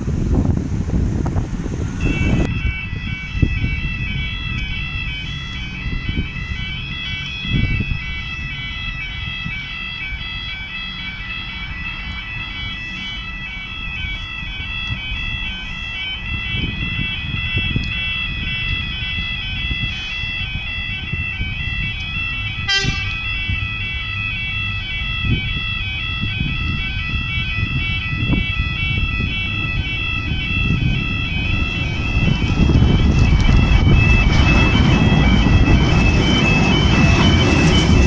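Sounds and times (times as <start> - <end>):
train rumble: 0.0 - 38.0
level crossing alarm warbling: 2.0 - 38.0.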